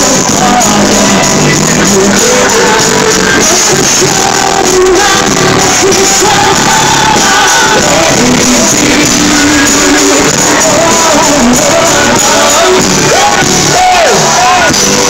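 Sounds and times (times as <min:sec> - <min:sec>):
live pop band: 0:00.0 - 0:15.0
person singing: 0:00.0 - 0:15.0.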